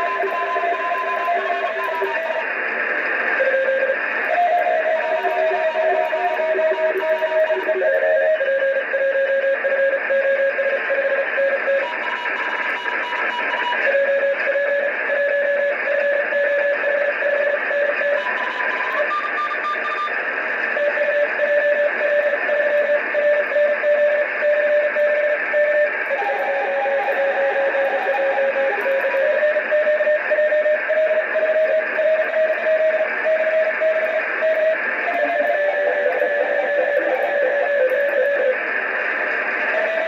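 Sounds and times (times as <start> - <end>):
radio hiss: 0.0 - 40.0.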